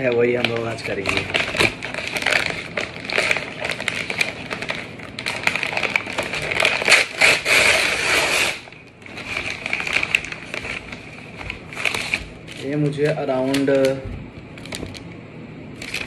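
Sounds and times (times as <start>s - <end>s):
paper bag crinkling and crackling: 0.0s - 15.1s, 15.8s - 16.0s.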